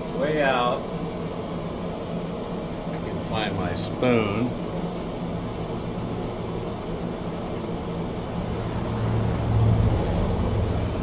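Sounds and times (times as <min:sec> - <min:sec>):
gas furnace burning rumble: 0:00.0 - 0:11.0.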